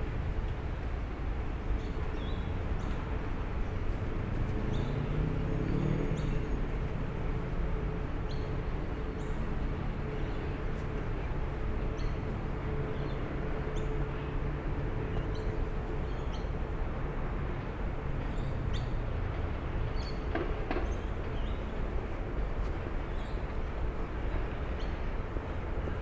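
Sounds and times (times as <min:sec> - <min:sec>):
low rumble of city traffic: 0:00.0 - 0:26.0.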